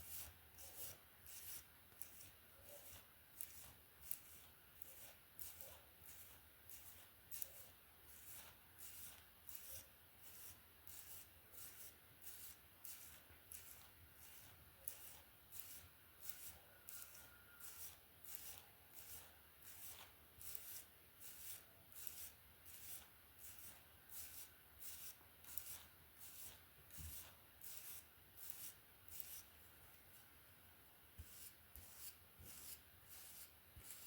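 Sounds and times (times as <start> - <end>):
hairbrush swishing through hair: 0.0 - 30.3, 31.2 - 34.0.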